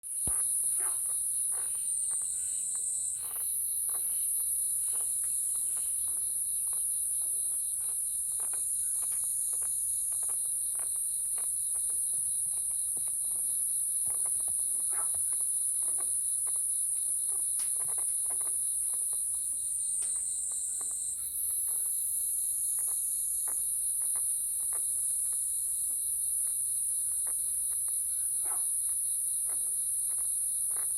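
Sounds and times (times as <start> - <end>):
night insects chorus: 0.1 - 30.9.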